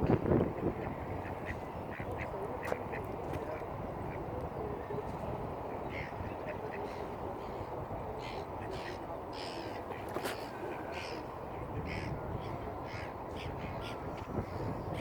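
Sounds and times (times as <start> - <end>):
steady low background noise: 0.0 - 15.0
waterside birds calling: 0.6 - 4.9, 5.7 - 15.0.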